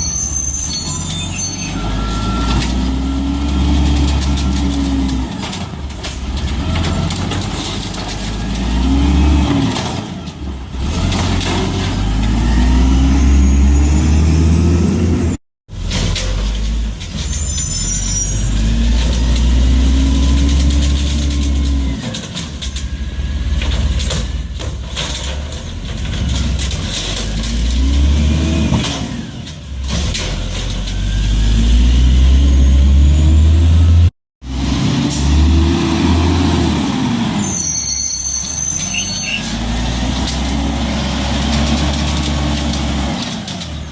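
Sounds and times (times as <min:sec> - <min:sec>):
diesel engine revving: 0:01.7 - 0:15.8, 0:18.5 - 0:37.6, 0:39.3 - 0:43.9.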